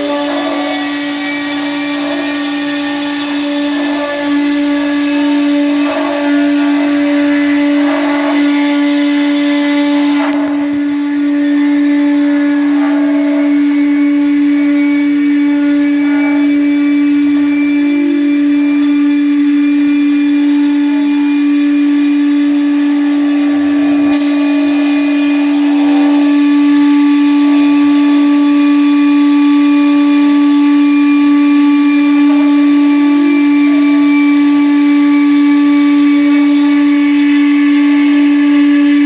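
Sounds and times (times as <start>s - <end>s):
bit engraving wood: 0.0s - 39.0s
router spindle whine: 0.0s - 39.0s.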